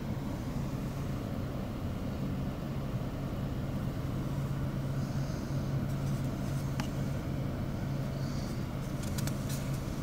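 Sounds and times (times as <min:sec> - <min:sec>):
air conditioner fan humming: 0:00.0 - 0:10.0.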